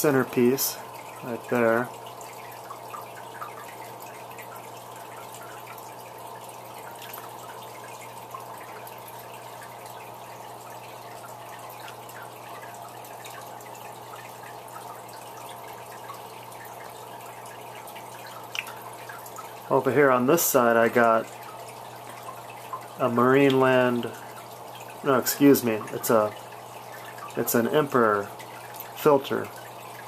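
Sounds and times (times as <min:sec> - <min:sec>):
low steady hum: 0:00.0 - 0:30.0
water dripping: 0:00.0 - 0:30.0
water trickling and splashing: 0:00.0 - 0:30.0.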